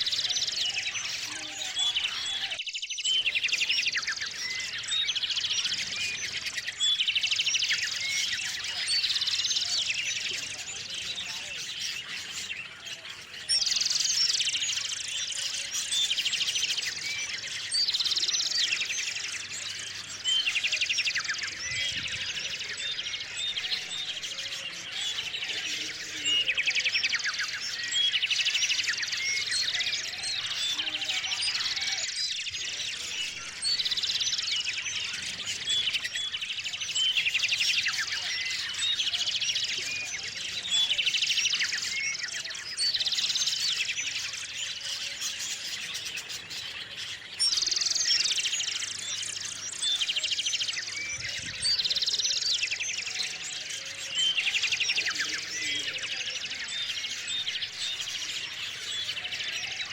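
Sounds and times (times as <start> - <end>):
birds chirping: 0.0 - 59.9
songbirds singing with trill: 0.0 - 59.9.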